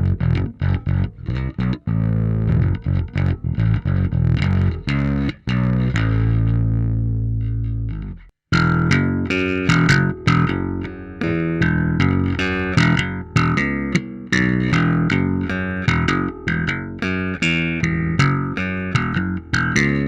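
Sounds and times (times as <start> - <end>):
overdriven bass guitar notes: 0.0 - 20.0.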